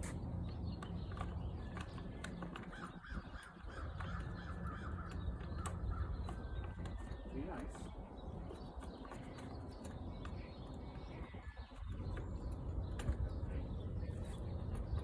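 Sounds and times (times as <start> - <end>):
bird calling: 0.8 - 15.0.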